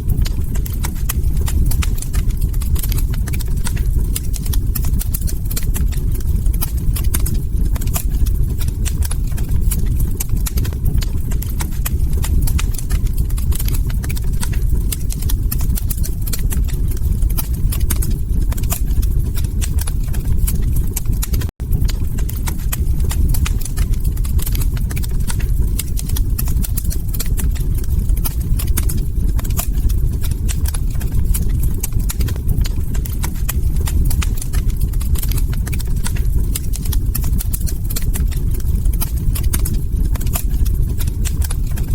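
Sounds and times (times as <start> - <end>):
log fire crackling: 0.0 - 41.9.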